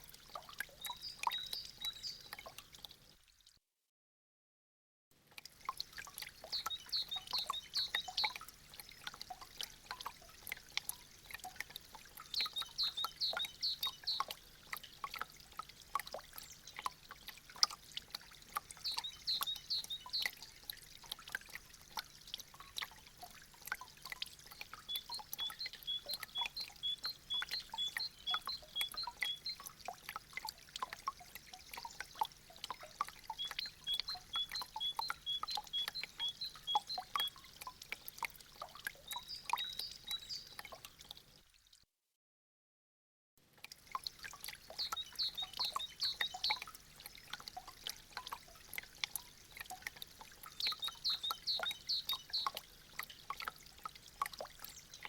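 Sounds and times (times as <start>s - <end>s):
meltwater dripping and trickling: 0.0s - 3.5s, 5.2s - 41.8s, 43.4s - 55.0s.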